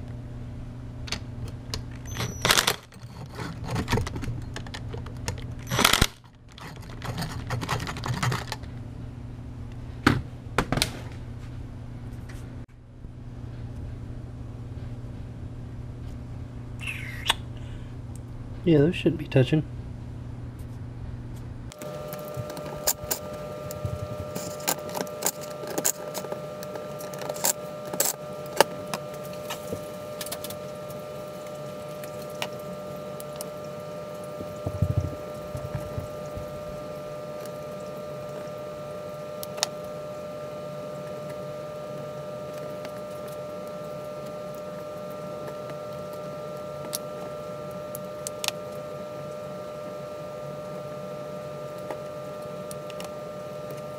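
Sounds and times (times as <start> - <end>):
steady hum: 0.0 - 53.9.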